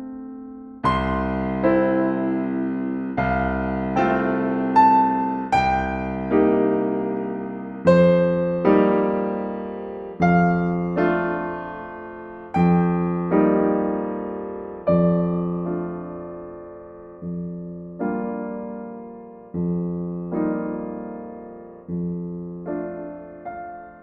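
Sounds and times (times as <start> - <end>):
gentle solo piano chords: 0.0 - 24.0.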